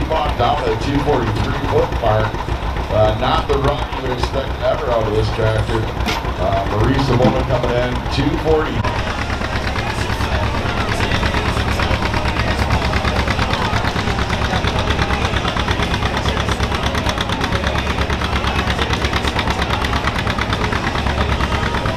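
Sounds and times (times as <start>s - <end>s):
tractor engine idling: 0.0s - 21.9s.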